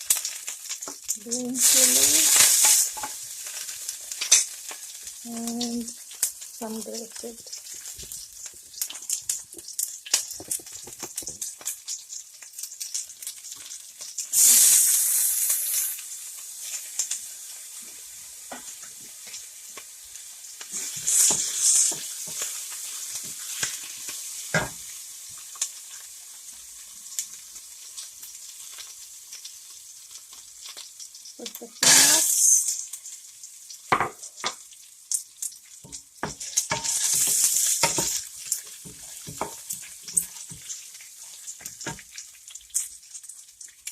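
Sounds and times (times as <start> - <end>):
spices sizzling in hot oil: 0.0 - 43.9.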